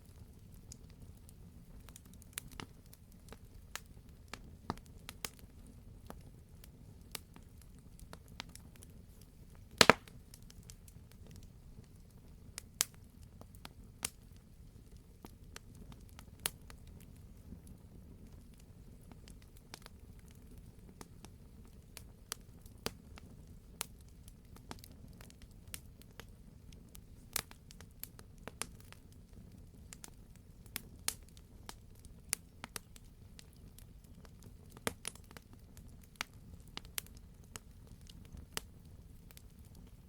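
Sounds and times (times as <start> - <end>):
low fire rumble: 0.0 - 40.0
wood fire crackling and popping: 0.1 - 40.0.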